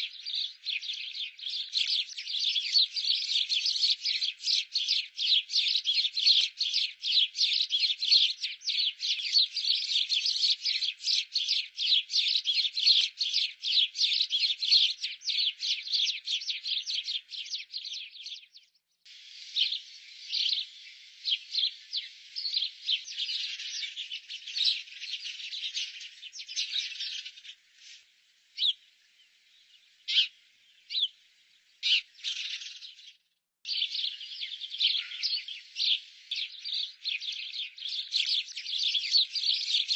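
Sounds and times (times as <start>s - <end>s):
birds chirping: 0.0s - 28.0s, 28.6s - 39.9s.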